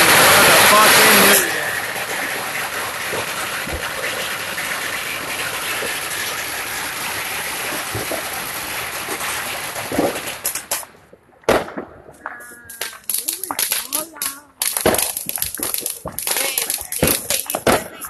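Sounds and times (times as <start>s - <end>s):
firework fountain hissing: 0.0s - 11.8s, 12.4s - 18.0s
firework crackles: 0.0s - 18.0s.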